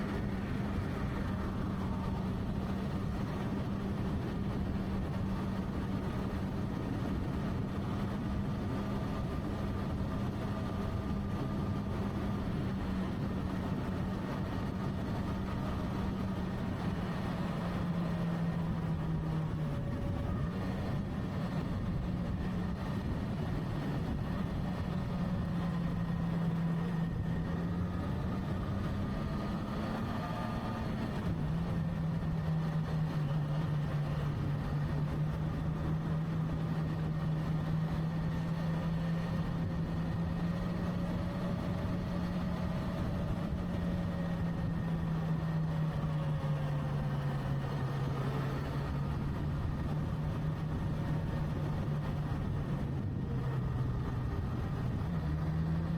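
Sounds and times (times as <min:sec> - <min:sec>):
road and wind noise: 0:00.0 - 0:55.9.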